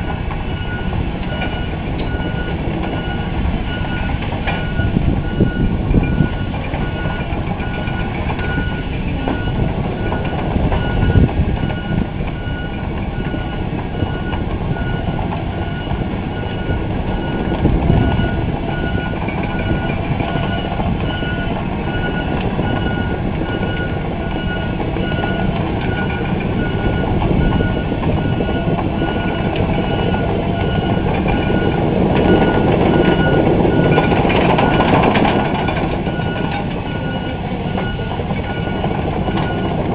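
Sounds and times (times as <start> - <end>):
diesel engine running: 0.0 - 39.9
steel tracks clattering: 0.0 - 39.9
travel alarm beeping: 0.0 - 39.9.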